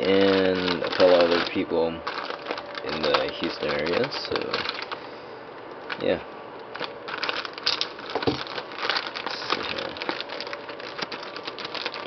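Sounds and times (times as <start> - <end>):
plastic bag crinkling: 0.0 - 5.2, 5.8 - 12.0.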